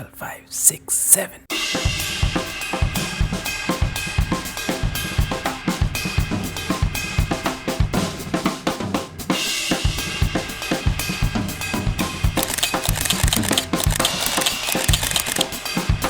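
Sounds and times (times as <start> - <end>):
drum kit music: 1.5 - 16.0.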